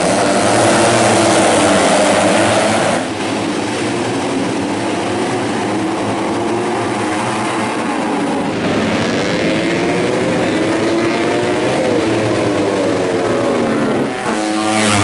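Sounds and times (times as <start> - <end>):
racing motorcycles revving: 0.0 - 15.0.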